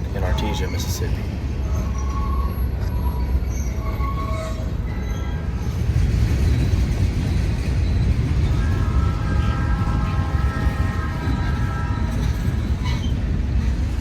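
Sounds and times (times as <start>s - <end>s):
train wheels rumbling on rail: 0.0s - 14.0s
wheels squealing: 1.6s - 13.9s.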